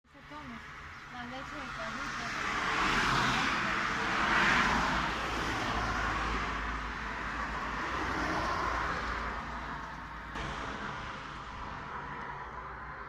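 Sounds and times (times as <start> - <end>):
cars passing: 0.1 - 13.0.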